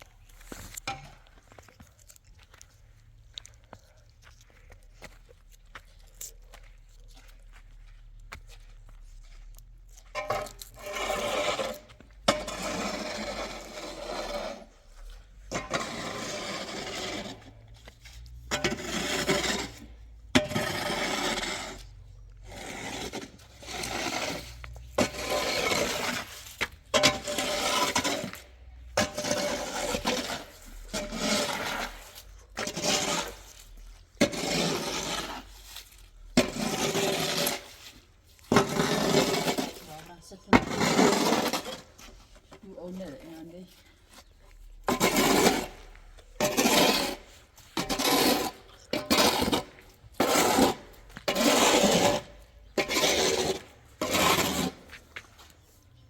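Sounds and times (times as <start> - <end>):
scraping strokes: 8.9 - 56.0.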